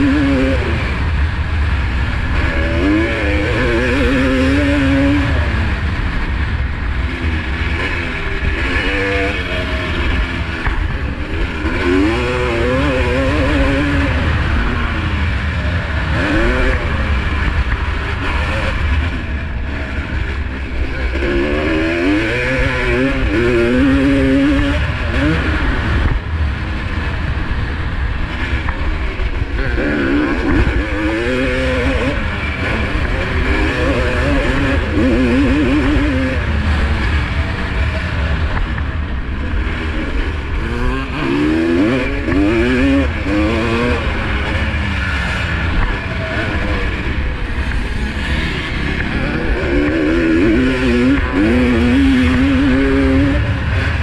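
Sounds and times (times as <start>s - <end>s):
two-stroke motocross engine revving: 0.0s - 54.0s.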